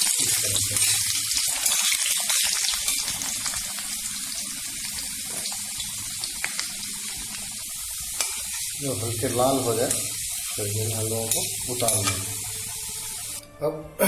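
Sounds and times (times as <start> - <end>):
potatoes frying in hot oil: 0.0 - 13.4.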